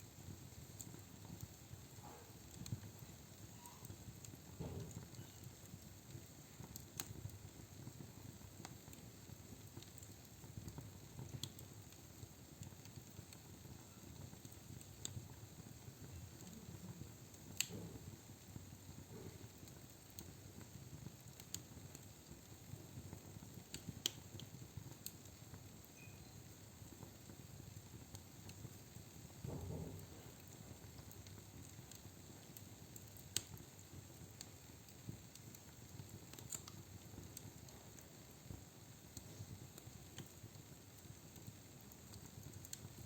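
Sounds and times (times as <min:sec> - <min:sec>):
fire crackling and popping: 0:00.0 - 0:43.0.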